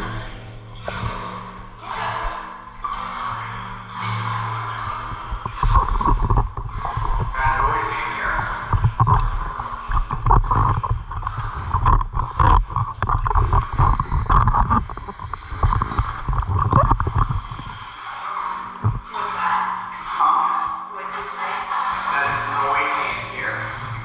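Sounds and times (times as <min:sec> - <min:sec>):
bubbles gurgling: 0:00.0 - 0:24.0.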